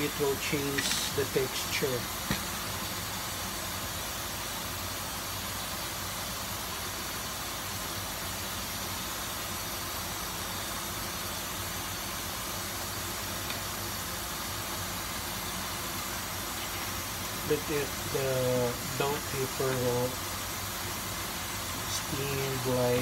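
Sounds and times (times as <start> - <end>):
food hissing in a pan: 0.0 - 23.0.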